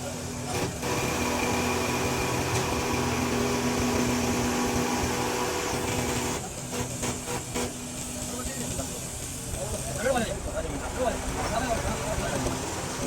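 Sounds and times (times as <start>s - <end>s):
motor humming and whining: 0.1s - 13.0s.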